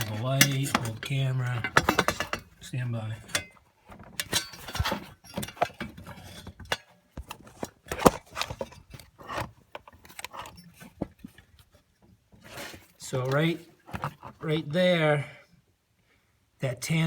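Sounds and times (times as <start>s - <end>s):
rustling: 0.0s - 14.6s.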